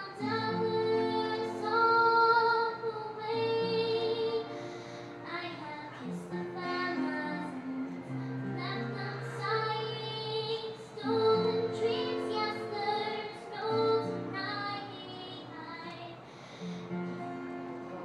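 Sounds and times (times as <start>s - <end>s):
girl singing into a microphone: 0.0s - 16.3s
instrumental accompaniment: 0.0s - 18.0s.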